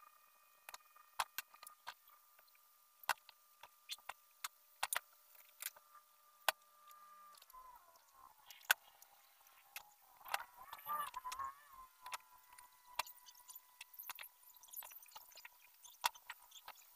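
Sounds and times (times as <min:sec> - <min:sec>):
faint steady high tone: 0:00.0 - 0:16.9.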